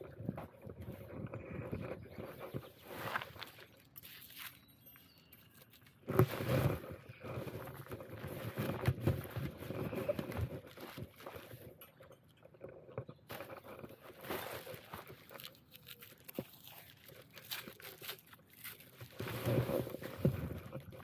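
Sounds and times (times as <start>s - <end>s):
litter crunching and rustling: 0.0s - 21.0s.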